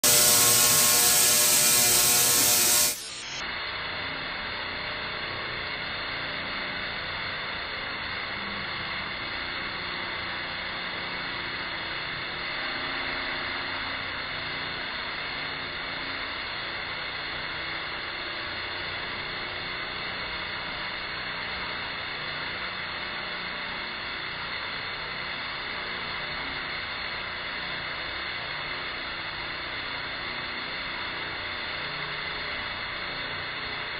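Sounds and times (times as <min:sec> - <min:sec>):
tesla coil buzzing crackle: 0:00.0 - 0:33.9.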